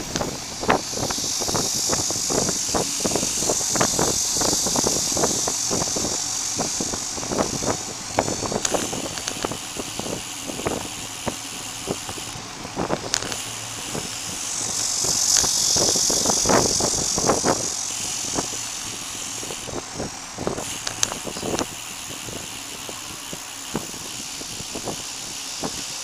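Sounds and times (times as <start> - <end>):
bicycle tyres hissing on asphalt: 0.0 - 26.0
wind: 0.0 - 26.0.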